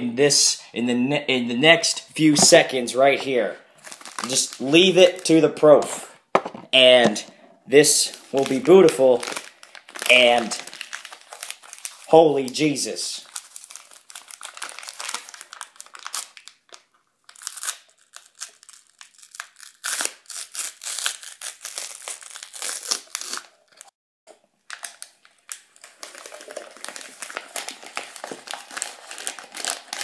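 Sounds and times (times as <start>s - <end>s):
packet crinkling and tearing: 2.4s - 5.4s, 8.0s - 23.9s, 24.6s - 30.0s.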